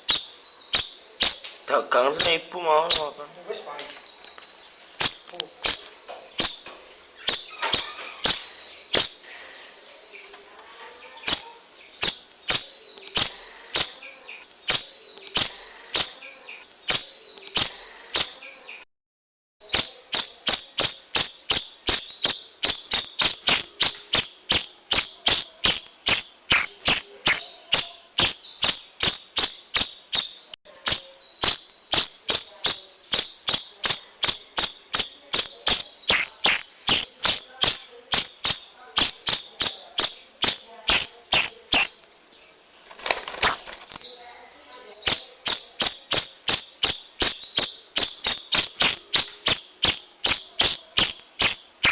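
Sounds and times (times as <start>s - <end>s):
songbird chirping: 0.0s - 18.9s, 19.6s - 51.9s.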